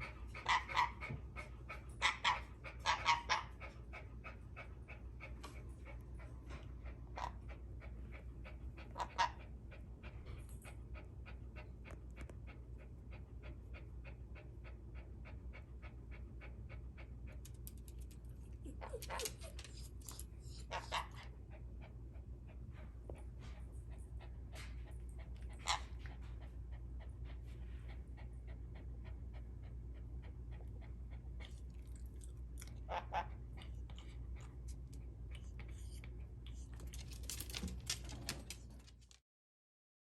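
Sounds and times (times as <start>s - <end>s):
dog panting: 0.0s - 39.2s
steady low hum: 0.0s - 39.2s.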